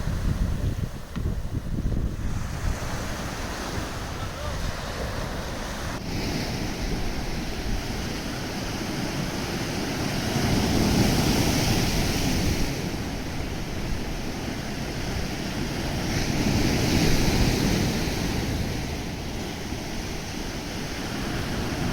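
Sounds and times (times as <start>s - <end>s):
waves washing onto shore: 0.0s - 21.9s
wind rumble on microphone: 0.0s - 21.9s.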